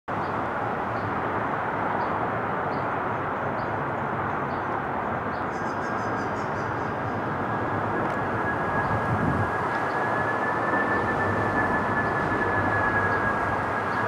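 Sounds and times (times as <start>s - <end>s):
jet engines rushing: 0.2s - 14.0s.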